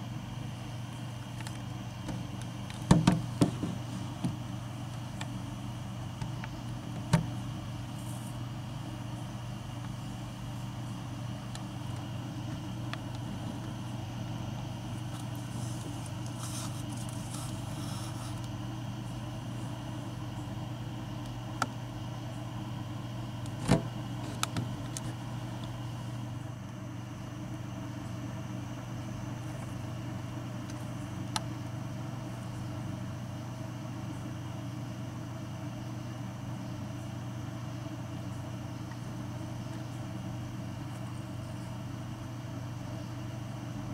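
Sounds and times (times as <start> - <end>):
low mechanical hum: 0.0 - 43.9.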